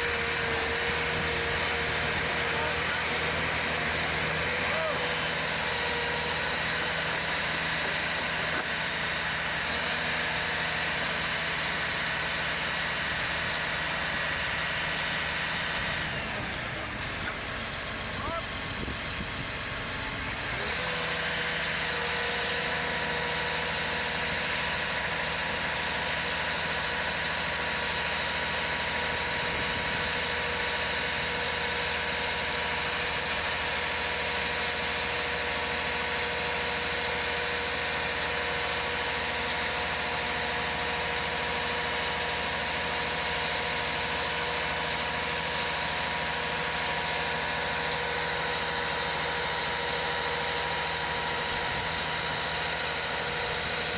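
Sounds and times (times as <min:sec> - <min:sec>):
engine whine: 0:00.0 - 0:53.9
heavy vehicle engine running: 0:00.0 - 0:53.9.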